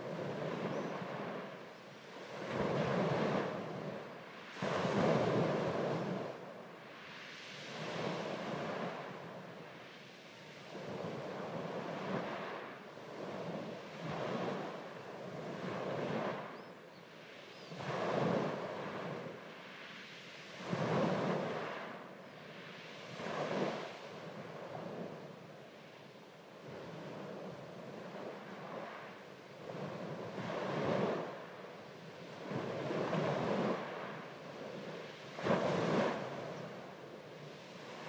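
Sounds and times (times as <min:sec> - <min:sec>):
waves breaking on beach: 0:00.0 - 0:38.0.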